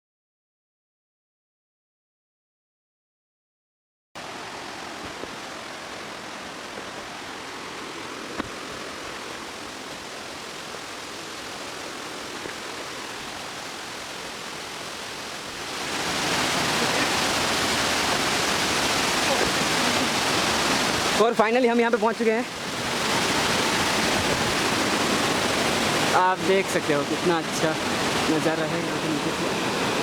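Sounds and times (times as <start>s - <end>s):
waterfall rushing water: 4.2s - 30.0s.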